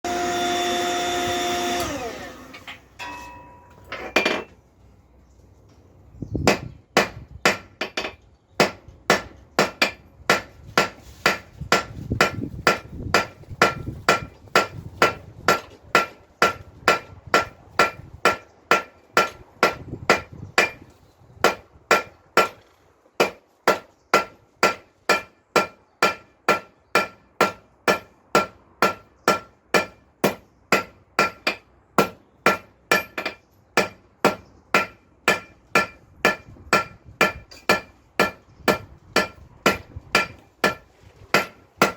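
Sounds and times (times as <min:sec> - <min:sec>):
hammer striking iron on anvil: 0:03.0 - 0:04.5, 0:06.5 - 0:20.8, 0:21.4 - 0:22.6, 0:23.2 - 0:41.9.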